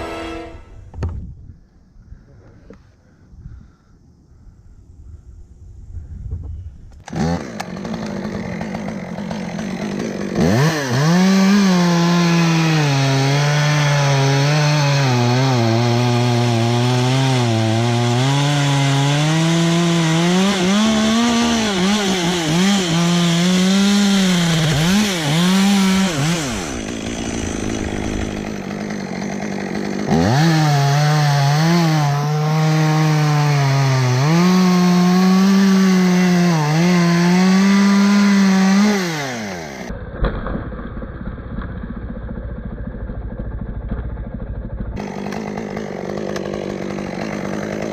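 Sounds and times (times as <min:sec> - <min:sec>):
chainsaw cutting wood: 0:07.0 - 0:47.9.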